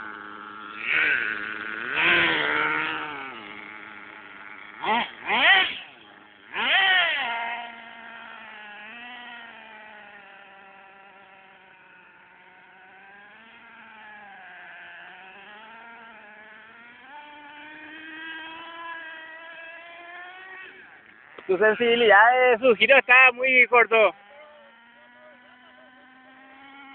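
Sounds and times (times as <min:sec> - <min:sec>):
toy truck electric motor whining: 0:00.0 - 0:21.5, 0:24.2 - 0:26.9.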